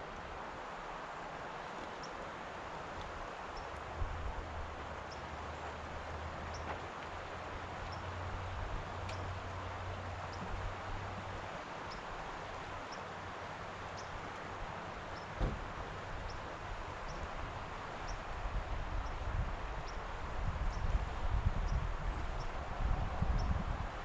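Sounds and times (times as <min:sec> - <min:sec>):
wind through leaves: 0:00.0 - 0:24.0.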